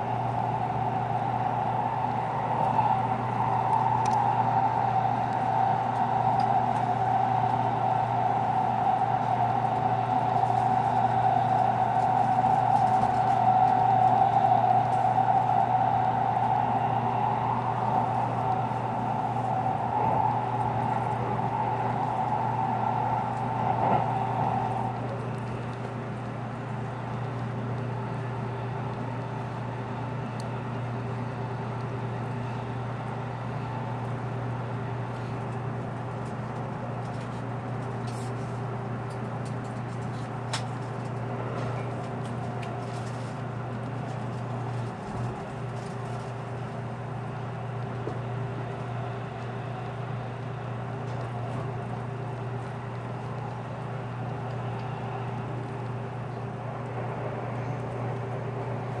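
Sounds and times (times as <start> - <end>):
train running hum and rumble: 0.0 - 59.0.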